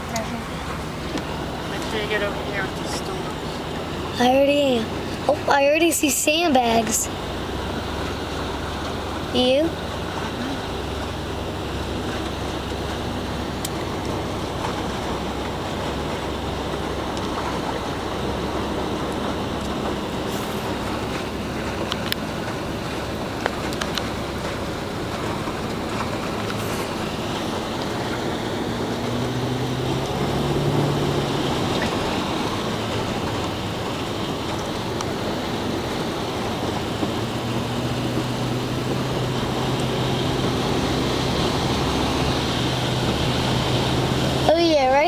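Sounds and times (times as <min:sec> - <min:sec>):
low engine hum: 0:00.0 - 0:45.0
tyre and road noise: 0:00.0 - 0:45.0.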